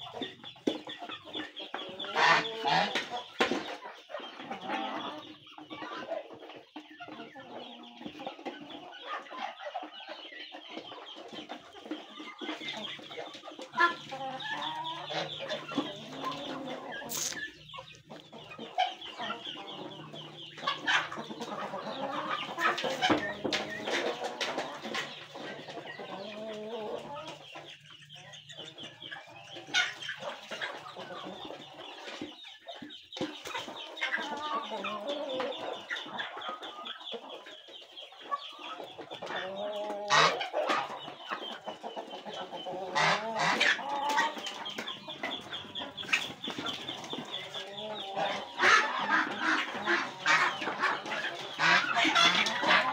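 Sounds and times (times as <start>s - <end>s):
chickens clucking: 0.0s - 52.9s
poultry calls: 0.0s - 52.9s.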